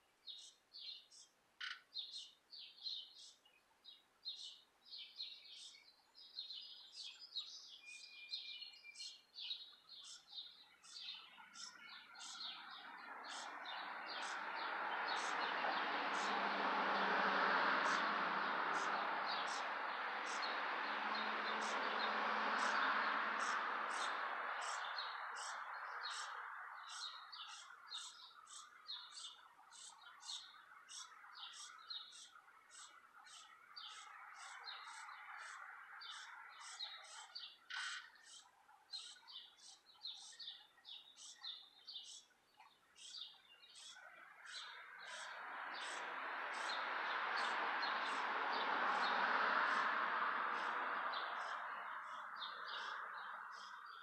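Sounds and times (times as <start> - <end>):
bird chirping: 0.0 - 17.1, 17.8 - 54.0.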